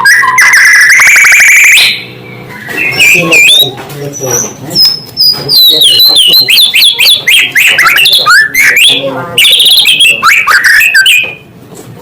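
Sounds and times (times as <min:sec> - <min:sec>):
songbird whistling and trilling: 0:00.0 - 0:11.4.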